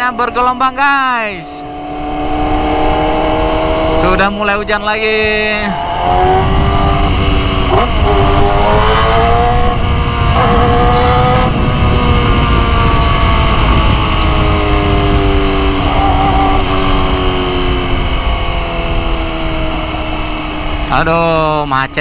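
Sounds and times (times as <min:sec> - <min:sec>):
wind and road noise rumble: 0:00.0 - 0:22.0
motorcycle engine revving: 0:01.4 - 0:22.0.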